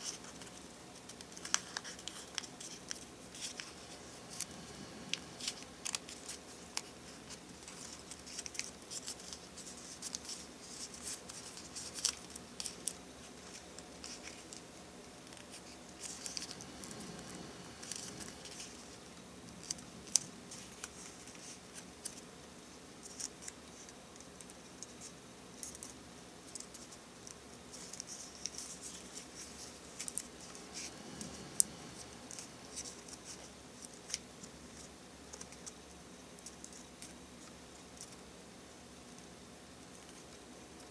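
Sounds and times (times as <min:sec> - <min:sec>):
paper rustling and crinkling: 0:00.0 - 0:22.3, 0:23.0 - 0:35.8.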